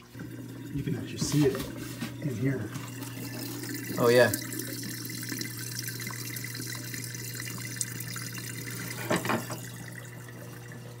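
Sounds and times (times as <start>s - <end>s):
dishwasher drain pump humming: 0.0s - 11.0s
water trickling down drain: 0.0s - 11.0s.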